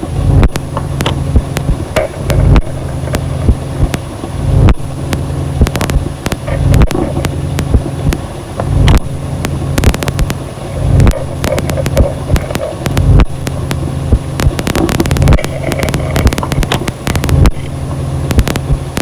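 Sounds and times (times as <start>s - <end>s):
low droning rumble: 0.0s - 19.0s
sharp clicks and crackles: 0.0s - 19.0s.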